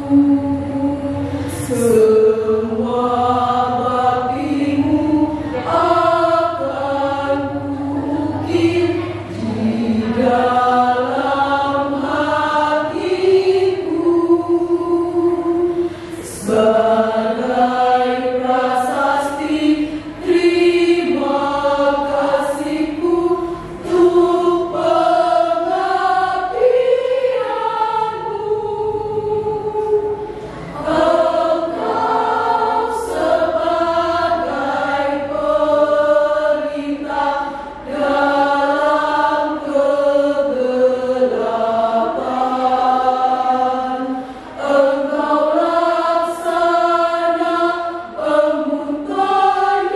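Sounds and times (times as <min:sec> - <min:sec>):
women's choir singing: 0:00.0 - 0:49.9.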